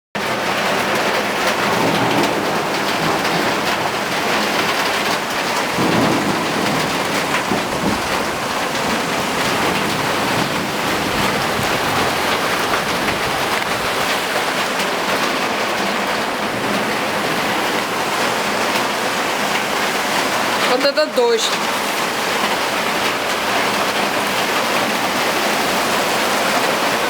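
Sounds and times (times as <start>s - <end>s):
heavy rain pouring: 0.2s - 27.0s.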